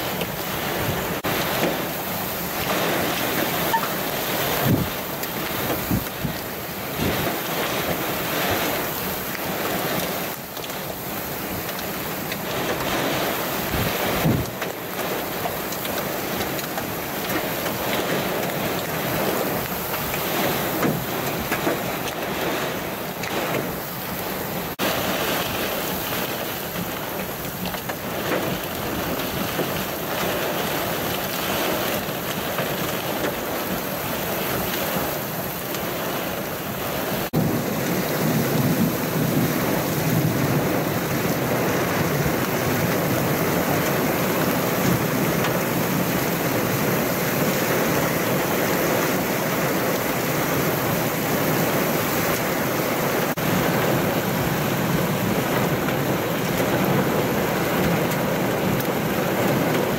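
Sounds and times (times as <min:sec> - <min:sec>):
heavy rain in strong wind: 0:00.0 - 0:59.9.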